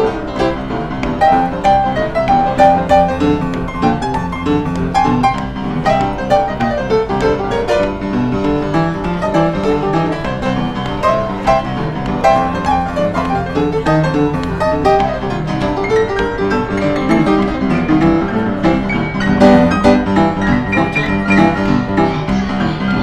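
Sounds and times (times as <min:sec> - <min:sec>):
upright piano rock and roll: 0:00.0 - 0:23.0.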